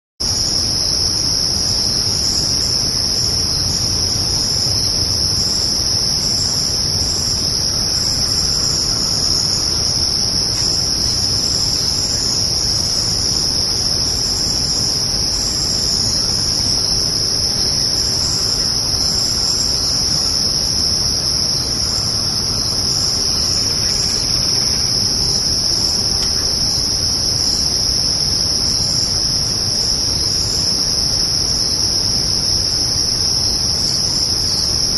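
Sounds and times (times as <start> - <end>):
crickets trilling: 0.2 - 34.9
insects chirping: 0.2 - 34.9.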